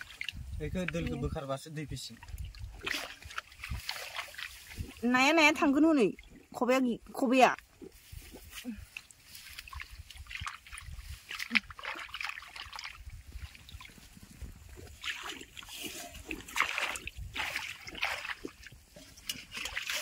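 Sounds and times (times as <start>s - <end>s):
metal bowl scooping water: 0.0s - 1.4s, 2.2s - 20.0s
muddy water splashing: 0.0s - 20.0s.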